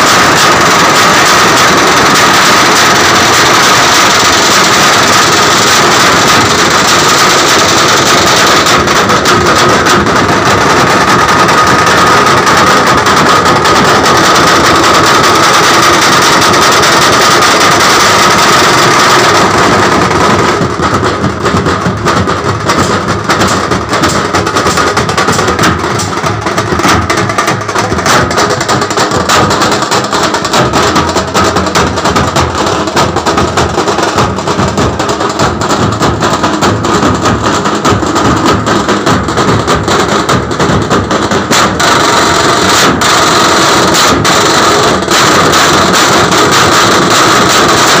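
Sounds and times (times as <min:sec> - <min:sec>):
drum troupe drumming: 0:00.0 - 0:48.0.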